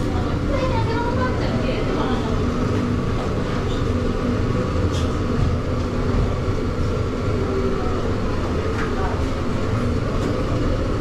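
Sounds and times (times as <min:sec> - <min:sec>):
ship diesel engine drone: 0:00.0 - 0:11.0.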